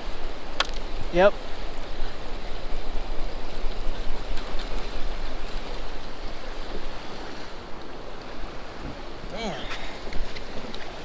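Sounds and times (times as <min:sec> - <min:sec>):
wind and rain buffeting microphone: 0:00.0 - 0:11.0.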